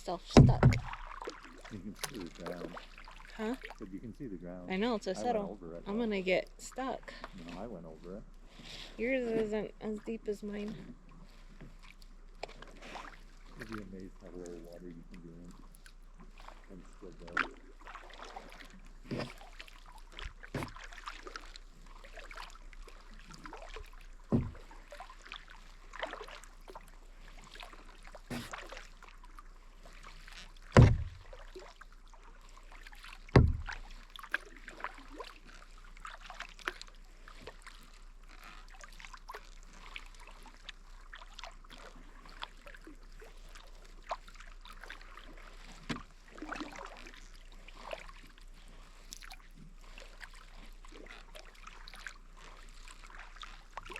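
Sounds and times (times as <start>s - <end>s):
paddle strokes in water: 0.0s - 4.1s, 4.7s - 53.9s
small splashes: 0.0s - 53.9s.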